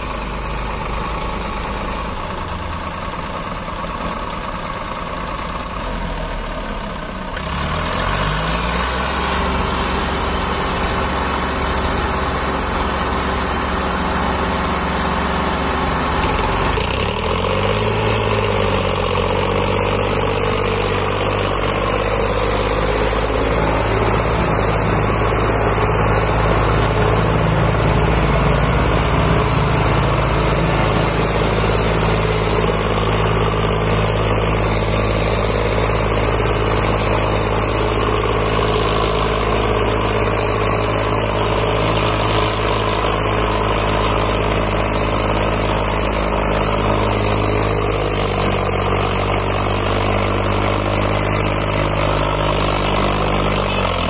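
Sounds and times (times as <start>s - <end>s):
tractor diesel engines under load: 0.0s - 54.0s.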